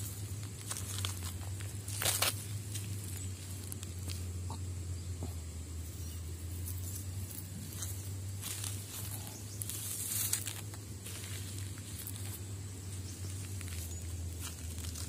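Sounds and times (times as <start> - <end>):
footsteps on gravel: 0.0 - 4.3, 6.6 - 15.0
steady low hum: 0.0 - 15.0.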